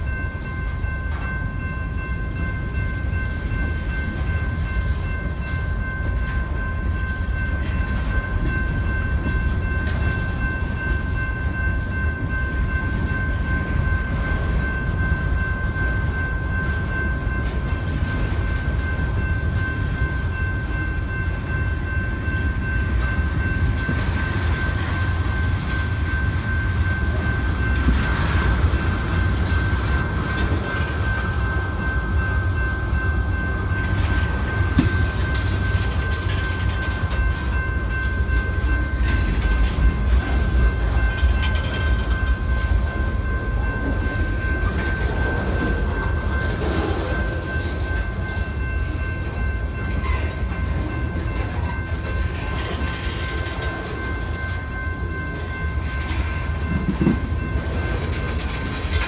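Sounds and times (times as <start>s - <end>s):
constant high-pitched tone: 0.0s - 59.0s
train wheels rumbling on rails: 0.0s - 59.0s.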